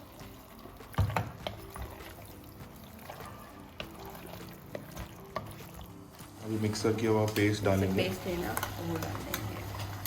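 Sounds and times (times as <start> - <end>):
chicken sizzling in a pan: 0.0 - 10.0.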